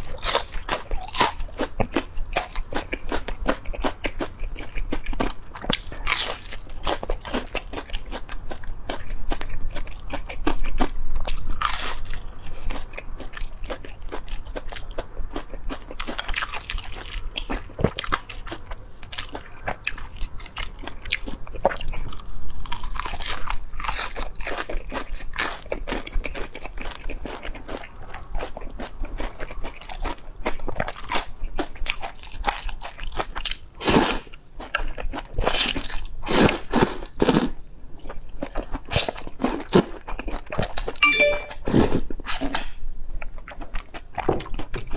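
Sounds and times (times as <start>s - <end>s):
crunchy bites and chewing: 0.0s - 41.1s, 41.7s - 44.9s.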